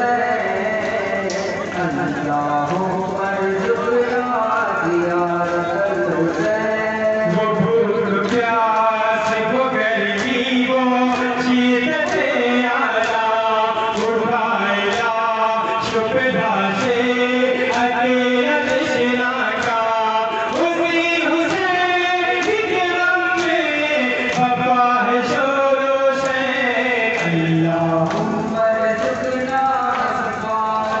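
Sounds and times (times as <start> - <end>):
men chanting a lament: 0.0 - 31.0.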